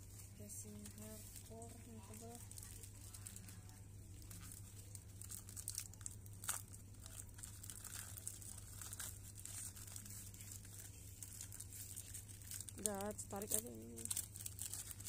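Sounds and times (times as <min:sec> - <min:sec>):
low steady hum: 0:00.0 - 0:15.0
plastic bag crinkling: 0:00.0 - 0:15.0.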